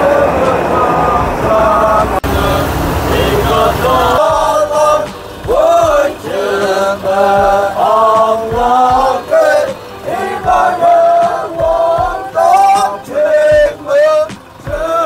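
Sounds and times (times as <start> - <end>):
men chanting in unison: 0.0 - 15.0
vehicle rumble: 0.0 - 15.0.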